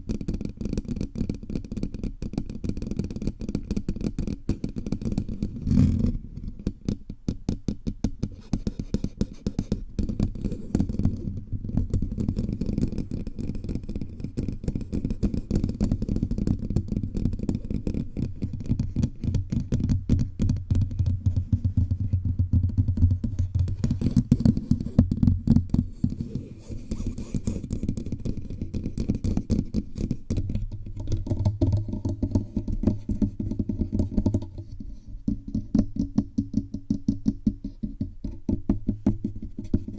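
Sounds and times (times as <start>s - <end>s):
fingertips tapping on microphone: 0.0s - 39.9s.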